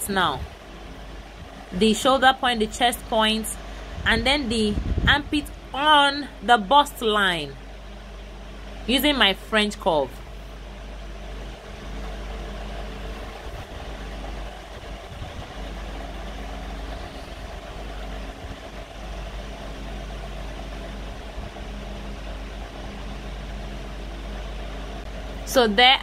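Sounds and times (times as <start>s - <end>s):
deep drone: 0.0s - 26.0s
low mechanical hum: 0.0s - 26.0s.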